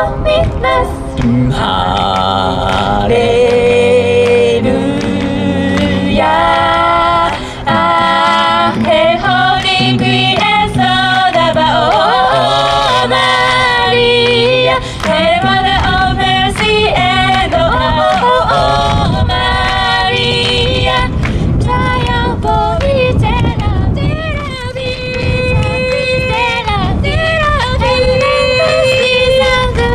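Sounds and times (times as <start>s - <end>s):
a cappella group singing in harmony: 0.0s - 29.9s.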